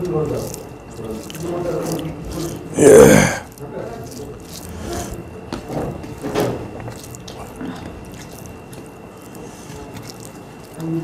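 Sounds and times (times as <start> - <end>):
chewing and lip smacks: 0.0 - 2.8, 3.4 - 11.0.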